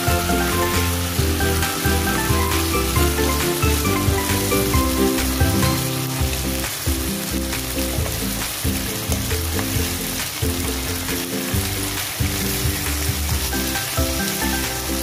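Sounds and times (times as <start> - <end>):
background music with low notes: 0.0 - 15.0
chicken sizzling in a pan: 0.0 - 15.0.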